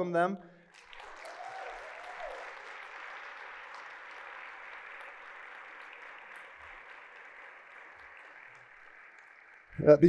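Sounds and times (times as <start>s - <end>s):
crowd applauding: 0.7s - 10.0s.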